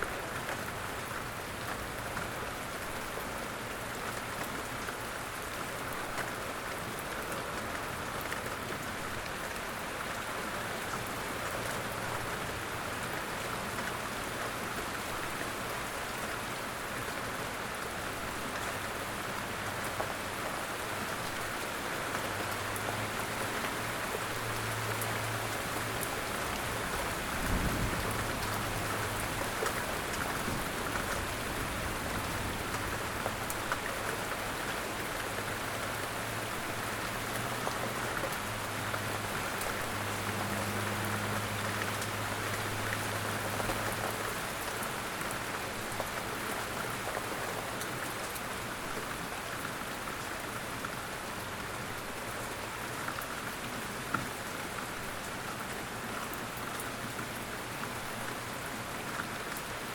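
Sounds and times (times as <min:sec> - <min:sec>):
raindrops ticking on leaves: 0:00.0 - 0:59.9.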